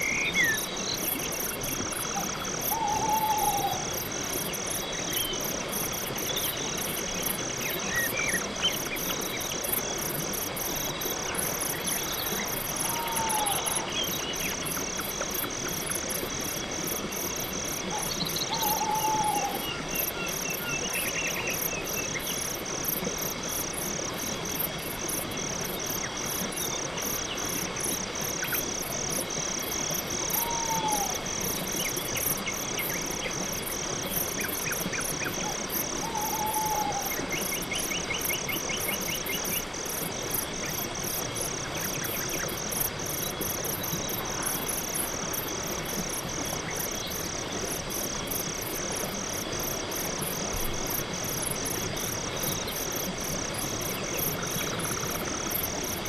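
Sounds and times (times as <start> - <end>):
crickets chirping: 0.0 - 56.0
steady background hiss: 0.0 - 56.0.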